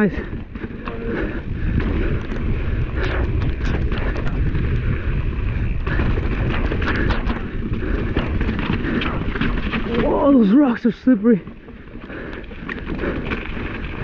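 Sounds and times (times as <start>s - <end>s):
mountain bike rattling: 0.0s - 14.0s
wind buffeting microphone: 0.0s - 14.0s.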